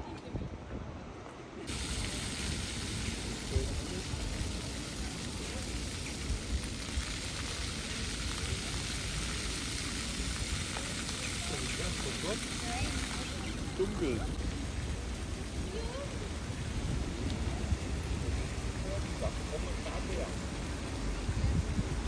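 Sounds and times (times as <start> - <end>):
fountain water splashing into basin: 1.7 - 22.0.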